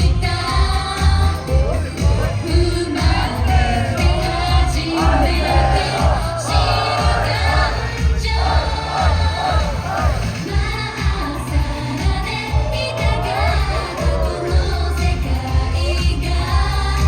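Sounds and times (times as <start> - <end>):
pop song with singing and band: 0.0 - 17.0
steady bass beat: 0.0 - 17.0.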